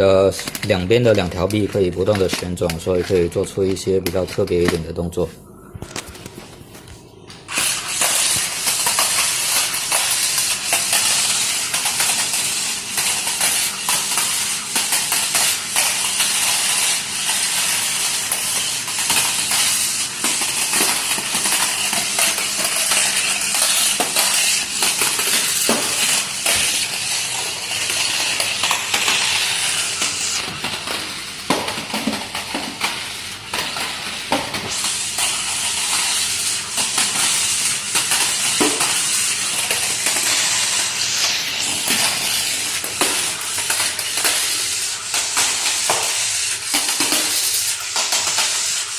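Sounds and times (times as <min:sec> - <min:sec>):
toy electric motor whirring: 0:07.5 - 0:48.9.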